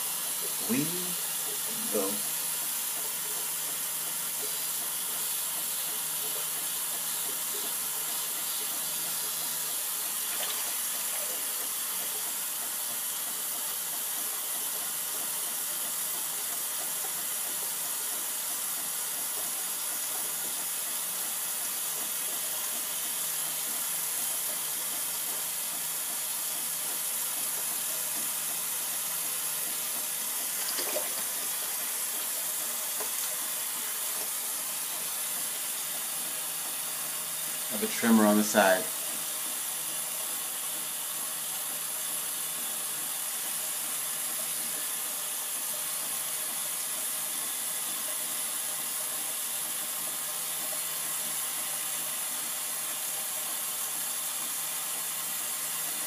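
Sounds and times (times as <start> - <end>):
tap water running into sink: 0.0 - 56.0.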